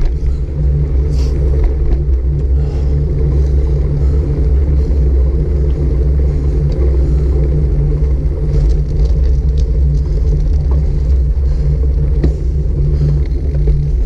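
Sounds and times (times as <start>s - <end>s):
road noise: 0.0s - 14.0s
wind rumbling on microphone: 0.0s - 14.0s.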